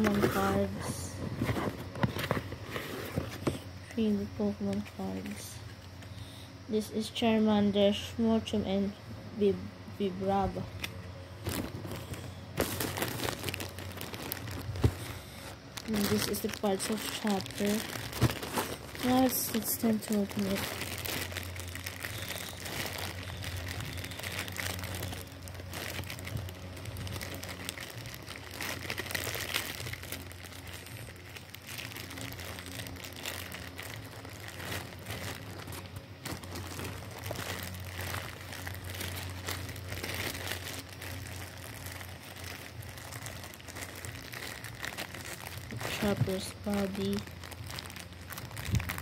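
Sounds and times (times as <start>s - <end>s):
plastic bags crinkling: 0.0s - 6.2s, 10.3s - 49.0s.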